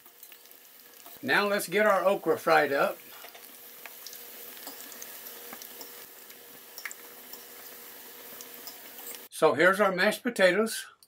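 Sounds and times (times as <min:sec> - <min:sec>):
food deep-frying in oil: 0:00.0 - 0:09.3
oil popping and crackling: 0:00.0 - 0:09.3.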